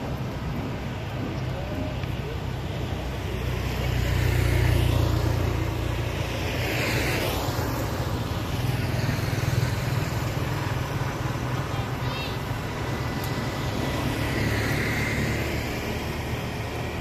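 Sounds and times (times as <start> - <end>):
motorbikes rumbling along road: 0.0 - 17.0
motorbike passing with a hiss: 1.6 - 17.0.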